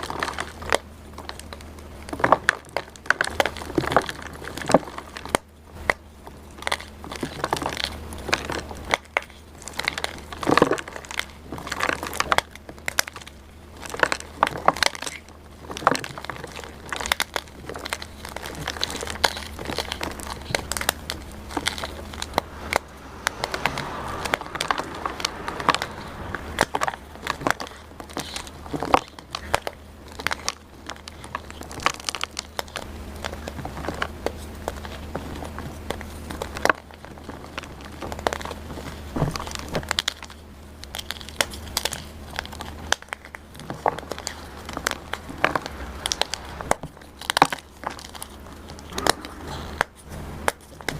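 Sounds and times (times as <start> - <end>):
chalk crushed with crunchy crackles: 0.0 - 50.9.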